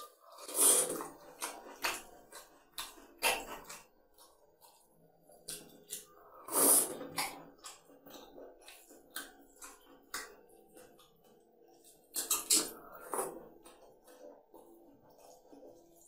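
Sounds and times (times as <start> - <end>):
mouth sounds of eating: 0.0 - 16.0
wet squishing of food by hand: 0.0 - 16.0.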